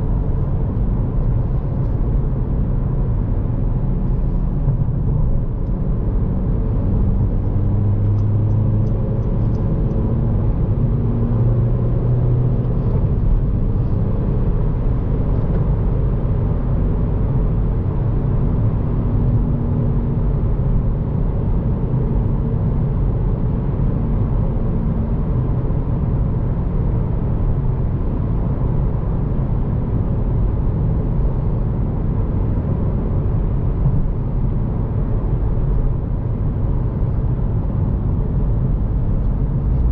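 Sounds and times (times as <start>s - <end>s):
car engine running: 0.0s - 19.3s, 20.1s - 39.9s
low road rumble: 0.0s - 39.9s.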